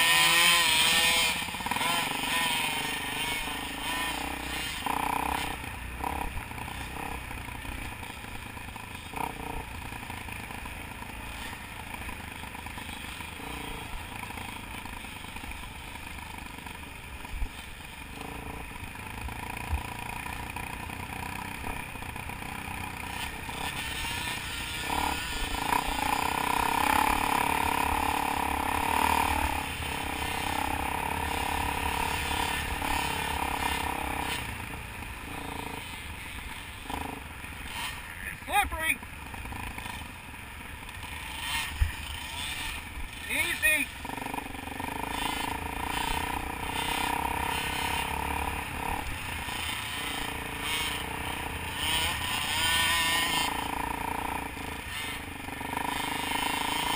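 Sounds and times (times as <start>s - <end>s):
dirt bike engine: 0.0s - 56.9s.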